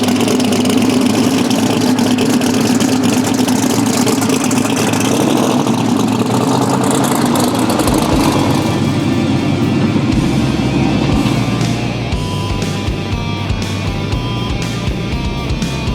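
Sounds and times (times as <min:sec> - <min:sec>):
drag car engine running: 0:00.0 - 0:15.9.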